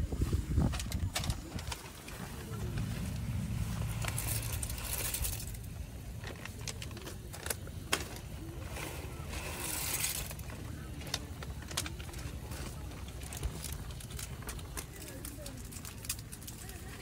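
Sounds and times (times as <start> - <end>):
low steady rumble: 0.0 - 17.0
plastic sachets crinkling: 0.7 - 17.0.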